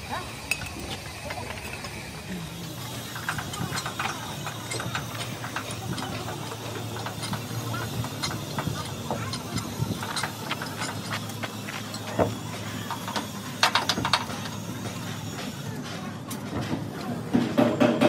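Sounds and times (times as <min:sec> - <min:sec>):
knocks and clinks of wheel: 0:02.7 - 0:18.0.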